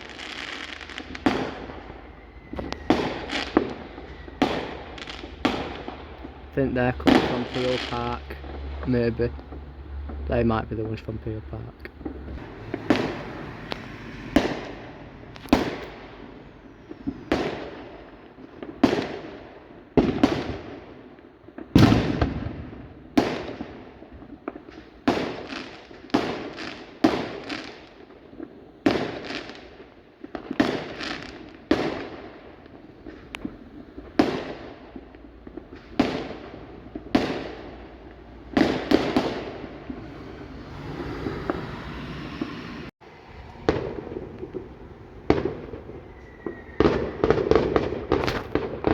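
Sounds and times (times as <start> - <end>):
fireworks bangs echoing: 0.0 - 48.9
fireworks crackling: 0.0 - 48.9.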